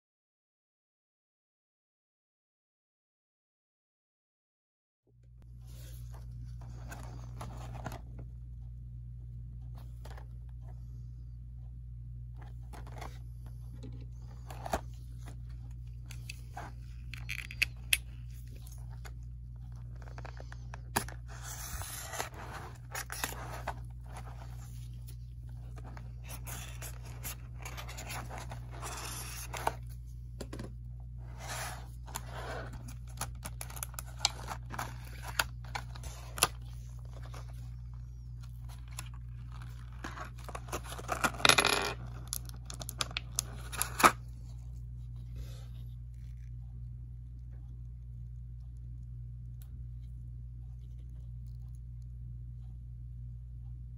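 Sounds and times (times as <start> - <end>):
low hum: 5.1 - 53.9.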